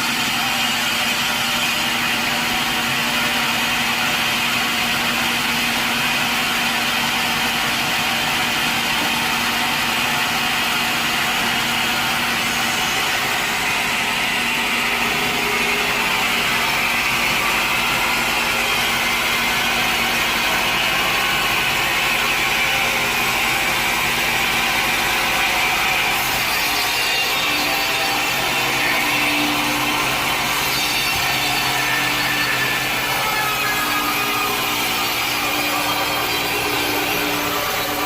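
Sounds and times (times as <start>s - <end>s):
sawmill machinery humming: 0.0s - 38.0s.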